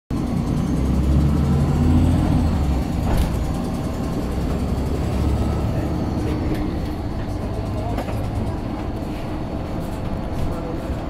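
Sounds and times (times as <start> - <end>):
bus engine low drone: 0.1 - 11.0.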